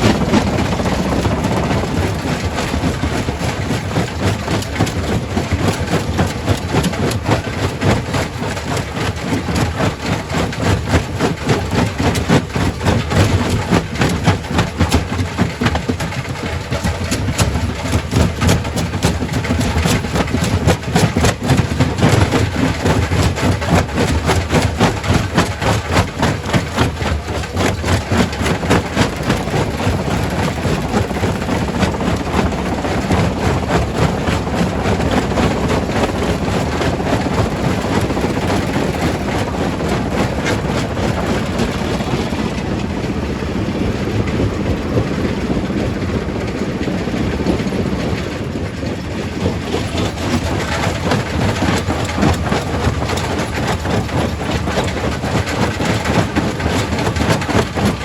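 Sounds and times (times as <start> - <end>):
heavy machine rumble: 0.0 - 58.0
rock crusher clatter and grinding: 0.0 - 58.0.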